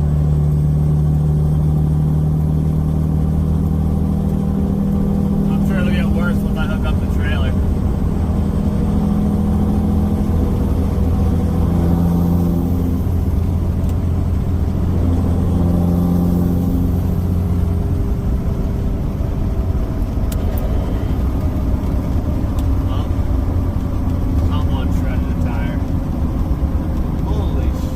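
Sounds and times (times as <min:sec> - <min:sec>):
diesel engine hum: 0:00.0 - 0:27.9
road noise: 0:00.0 - 0:27.9.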